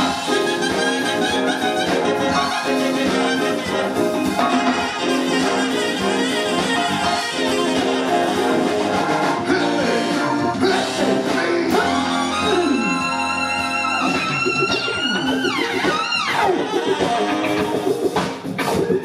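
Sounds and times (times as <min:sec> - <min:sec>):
live rock band playing: 0:00.0 - 0:19.0
pitch slide into high notes: 0:00.0 - 0:19.0.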